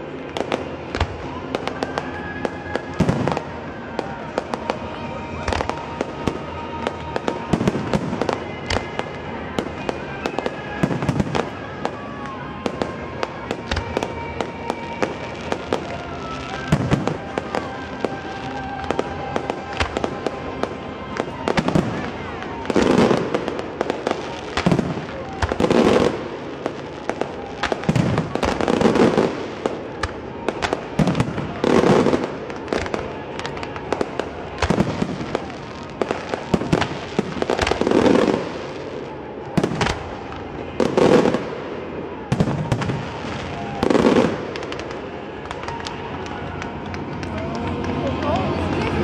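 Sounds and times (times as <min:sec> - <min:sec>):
fireworks crackling and popping: 0:00.0 - 0:49.0.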